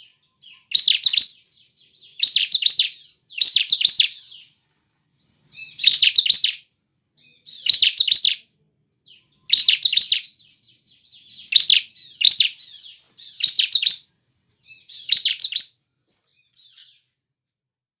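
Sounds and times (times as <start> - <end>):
bird singing rapid high chirps: 0.0 - 4.6, 5.2 - 17.1.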